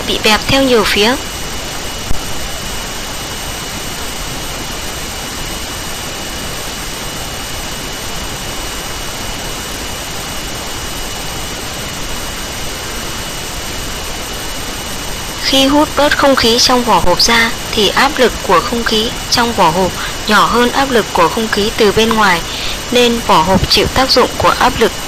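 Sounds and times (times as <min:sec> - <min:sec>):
faint high whine: 0:00.0 - 0:25.0
recording hiss: 0:00.0 - 0:25.0.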